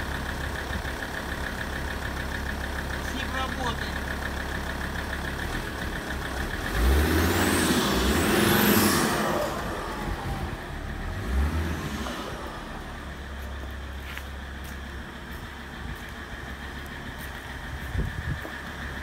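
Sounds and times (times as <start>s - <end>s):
diesel car engine idling and revving: 0.0s - 19.0s
high engine whine: 0.0s - 19.0s.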